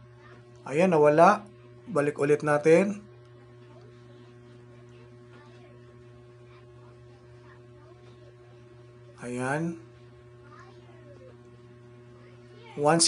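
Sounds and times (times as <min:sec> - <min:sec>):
low electrical mains hum: 0:00.0 - 0:13.0.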